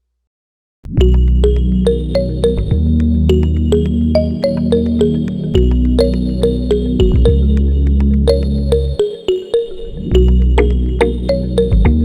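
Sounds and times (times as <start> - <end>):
synthesizer bass: 0.9 - 12.0
plucked bell-like notes: 1.0 - 12.0.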